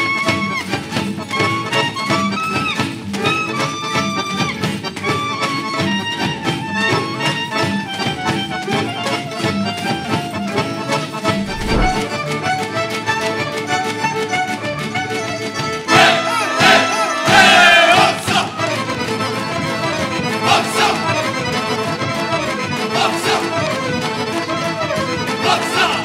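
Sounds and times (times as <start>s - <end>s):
live band playing folk dance music: 0.0s - 26.0s.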